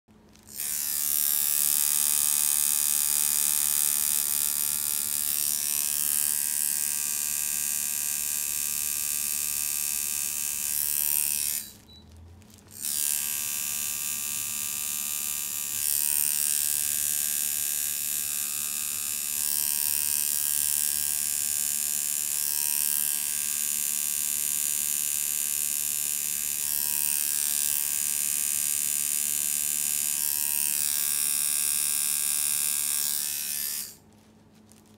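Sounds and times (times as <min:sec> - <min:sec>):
tattoo machine buzzing: 0:00.4 - 0:11.8, 0:12.7 - 0:34.0.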